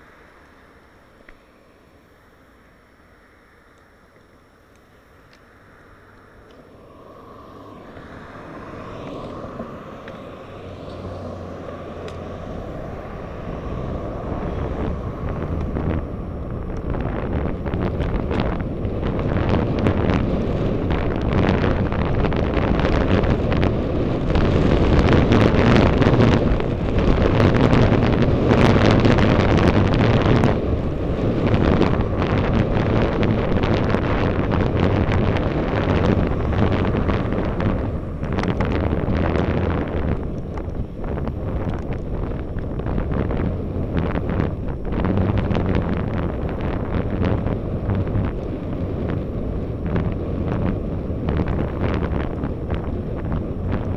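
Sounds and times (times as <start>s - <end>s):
wind buffeting microphone: 3.7s - 53.9s.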